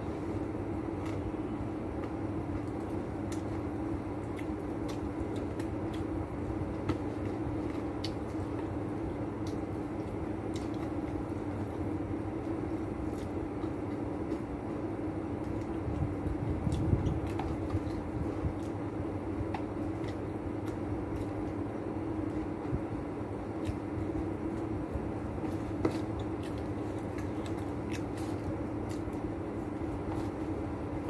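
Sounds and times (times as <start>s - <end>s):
steady mechanical hum: 0.0s - 31.0s
crispy fried chicken being eaten: 0.1s - 30.9s.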